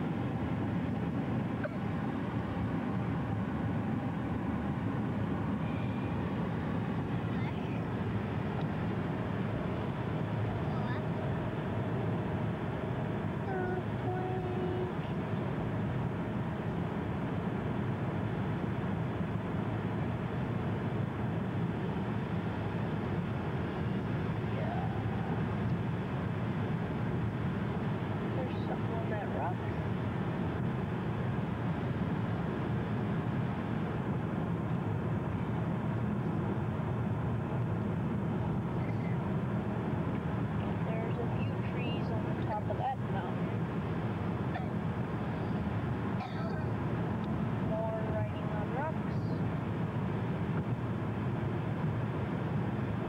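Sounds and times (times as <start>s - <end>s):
car driving at highway speed: 0.0s - 53.0s.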